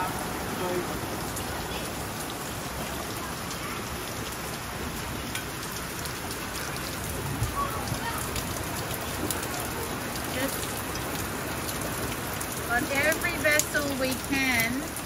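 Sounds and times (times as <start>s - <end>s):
rain on roof: 0.0s - 15.0s.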